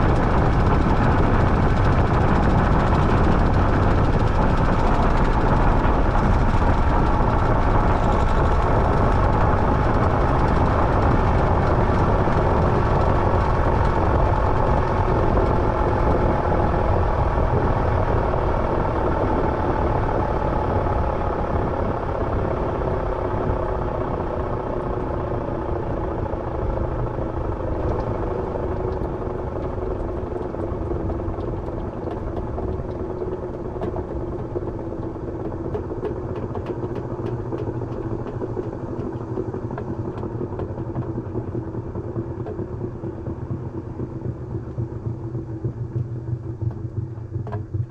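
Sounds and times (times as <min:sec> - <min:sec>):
washing machine winding down: 0:00.0 - 0:47.9.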